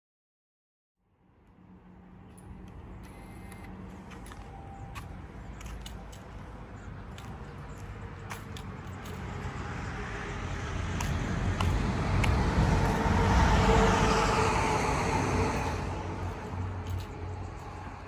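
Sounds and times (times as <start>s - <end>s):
vehicle passing by: 1.6s - 18.0s.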